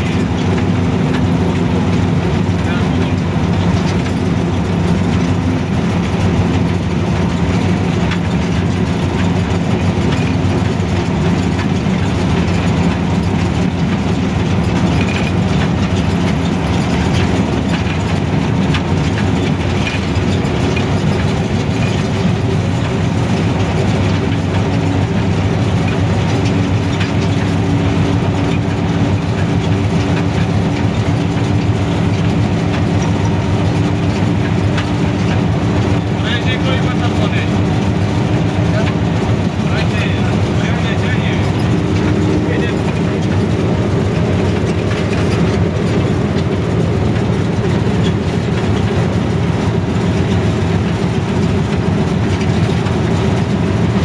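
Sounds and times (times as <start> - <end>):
diesel locomotive engine drone: 0.0 - 54.0
train on track: 0.0 - 54.0.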